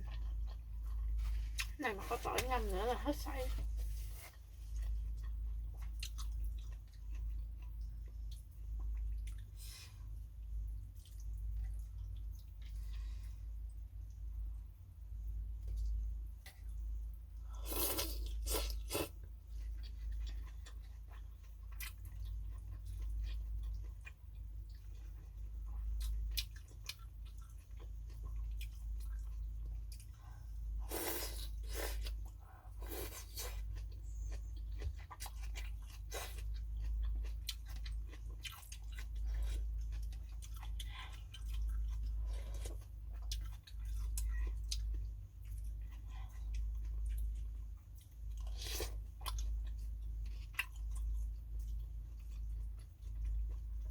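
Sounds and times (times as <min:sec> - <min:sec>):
chewing: 0:00.0 - 0:01.8, 0:04.1 - 0:13.3, 0:17.6 - 0:53.9
steady low hum: 0:00.0 - 0:53.9.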